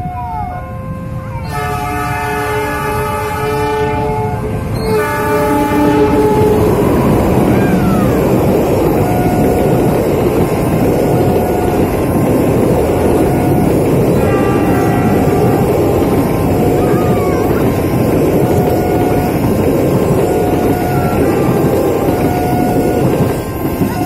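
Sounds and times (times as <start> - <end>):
train wheels rumbling on rails: 0.0 - 24.0
locomotive horn blasts: 0.8 - 12.3, 13.0 - 24.0.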